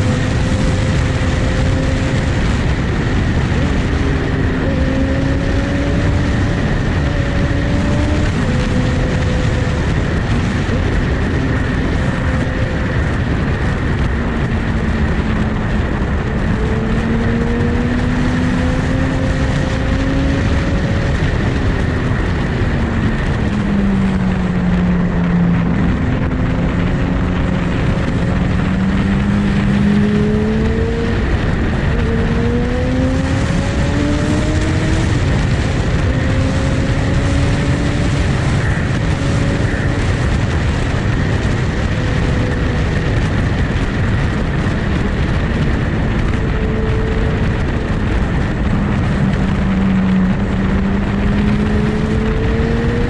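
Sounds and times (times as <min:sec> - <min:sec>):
loud rush of noise: 0:00.0 - 0:53.0
motorcycle engine running: 0:00.0 - 0:53.0.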